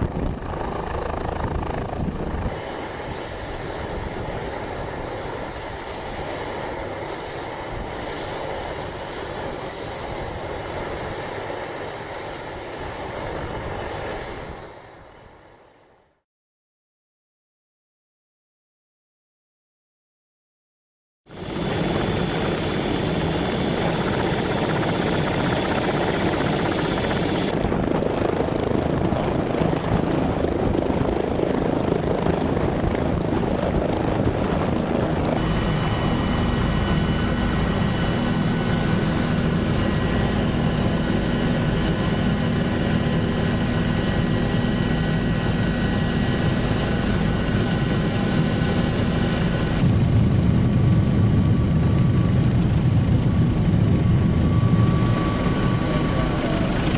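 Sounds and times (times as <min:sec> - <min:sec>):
helicopter turbine and rotor: 0:00.0 - 0:16.2, 0:21.3 - 0:56.9.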